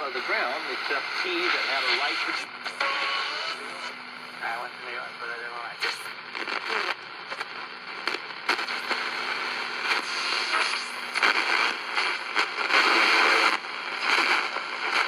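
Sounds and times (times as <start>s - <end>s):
radio static hiss and crackle: 0.0s - 15.0s.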